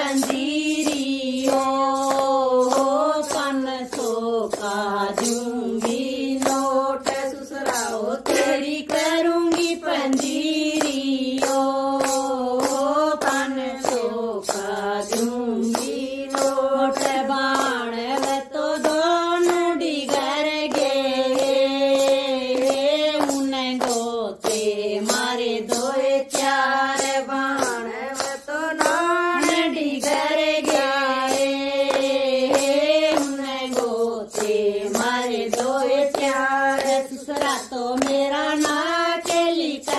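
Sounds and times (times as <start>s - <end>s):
hand-clapping: 0.0s - 39.9s
women singing devotional song: 0.0s - 39.9s.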